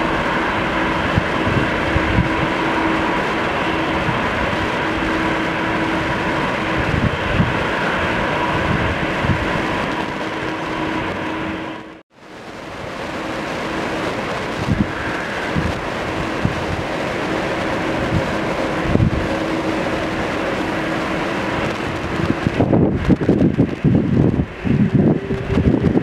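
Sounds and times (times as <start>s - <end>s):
jet engines roaring: 0.0s - 26.0s
wind buffeting microphone: 0.0s - 26.0s.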